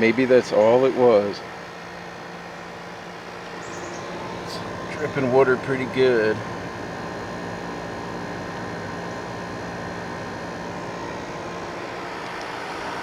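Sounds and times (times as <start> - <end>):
dehumidifier humming: 0.0 - 13.0.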